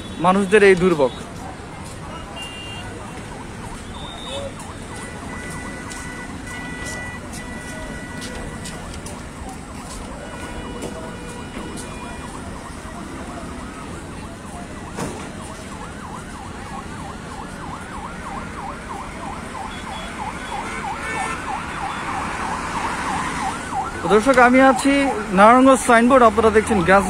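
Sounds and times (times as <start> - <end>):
emergency siren yelping: 0.0 - 27.0
road traffic noise: 0.0 - 27.0.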